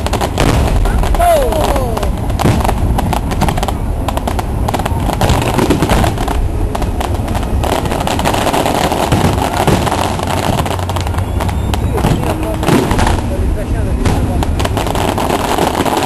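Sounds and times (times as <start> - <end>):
fireworks bangs and crackles: 0.0 - 16.0
steady low rumble: 0.0 - 16.0.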